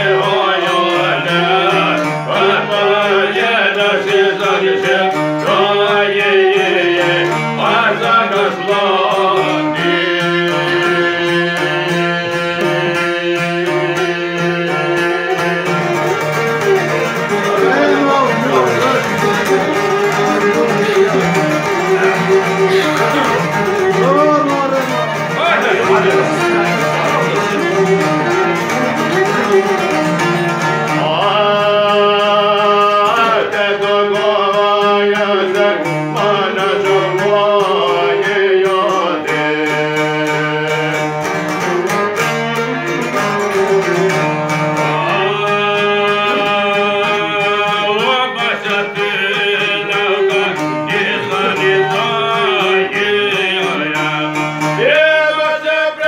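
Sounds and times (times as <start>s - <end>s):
bowed violin: 0.0s - 33.7s, 35.2s - 55.0s
men singing: 0.0s - 56.0s
plucked lutes: 0.0s - 56.0s.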